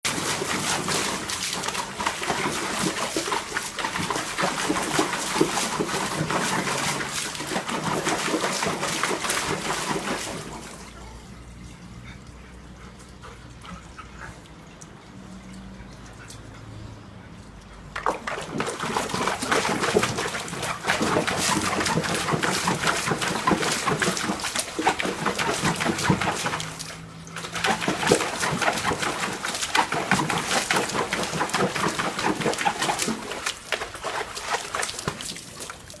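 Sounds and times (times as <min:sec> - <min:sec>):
dog splashing in water: 0:00.0 - 0:11.2, 0:17.8 - 0:36.0.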